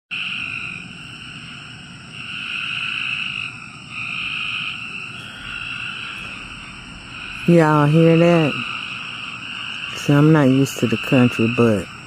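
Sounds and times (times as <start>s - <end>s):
frogs trilling: 0.1s - 12.0s.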